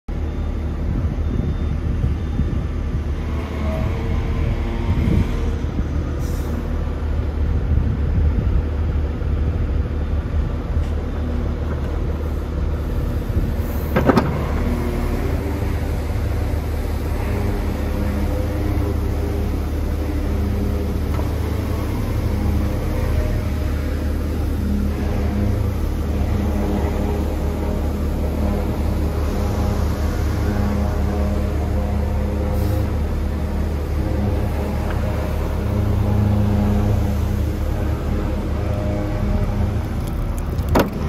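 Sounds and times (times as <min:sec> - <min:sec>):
diesel engine idling: 0:03.9 - 0:41.0.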